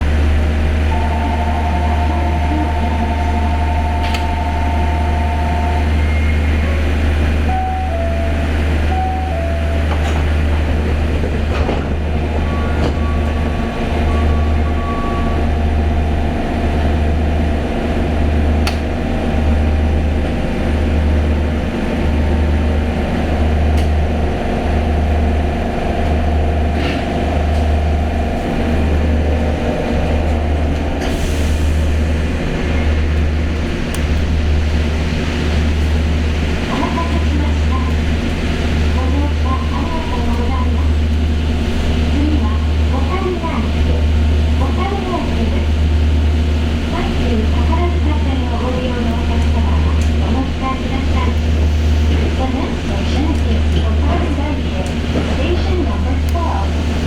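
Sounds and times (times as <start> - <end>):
train equipment low hum: 0.0 - 57.0.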